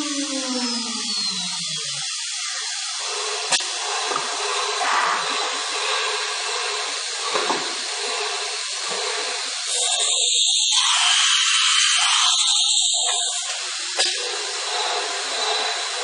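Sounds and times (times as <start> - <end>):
cnc router machining hiss: 0.0 - 16.0.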